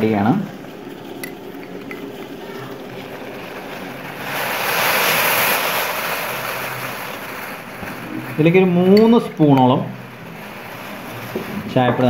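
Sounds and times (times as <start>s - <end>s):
water boiling in saucepan: 0.0s - 12.0s.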